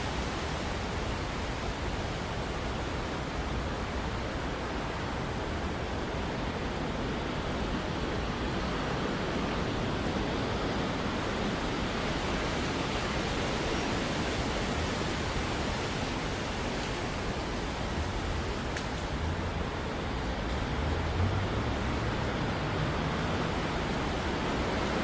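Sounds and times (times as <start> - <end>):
outdoor city background noise: 0.0 - 25.0.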